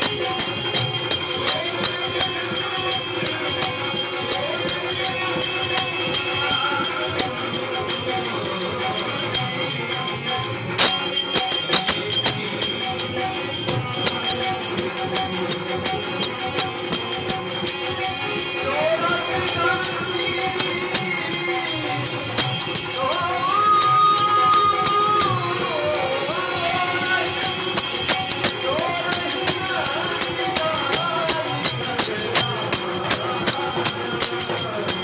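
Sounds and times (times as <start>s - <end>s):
metallic bell-like jingling: 0.0s - 35.0s.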